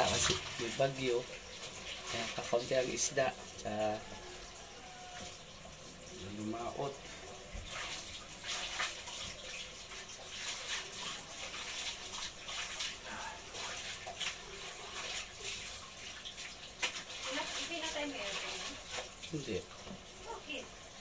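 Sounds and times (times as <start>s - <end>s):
water splashing: 0.0s - 21.0s.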